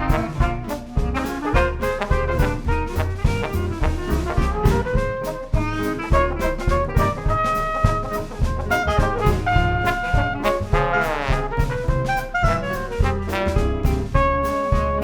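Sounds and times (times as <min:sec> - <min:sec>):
clarinet: 0:00.0 - 0:15.0
drum kit beat: 0:00.0 - 0:15.0
jazz band playing: 0:00.0 - 0:15.0
trombone falling slide: 0:00.0 - 0:15.0
trumpet: 0:00.0 - 0:15.0.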